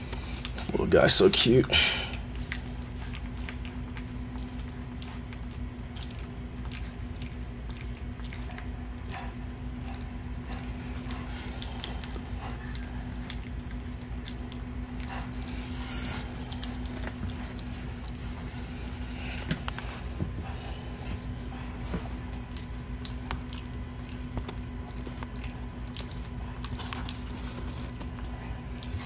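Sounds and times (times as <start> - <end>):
low steady hum: 0.0 - 29.0
puppy lapping and chewing: 0.0 - 29.0.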